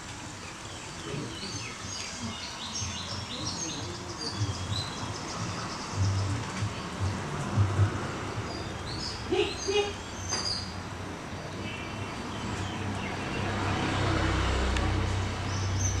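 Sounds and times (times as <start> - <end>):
small birds chirping: 0.2 - 14.4, 15.2 - 16.0.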